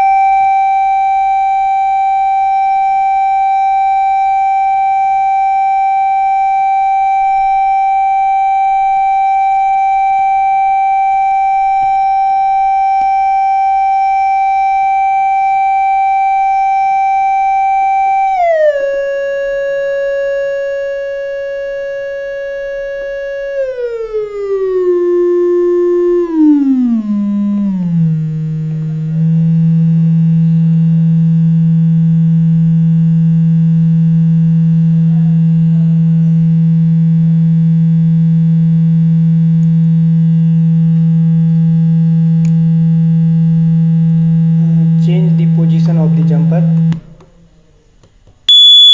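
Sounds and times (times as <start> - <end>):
sine test tone from loudspeaker: 0.0 - 47.0, 48.5 - 48.9.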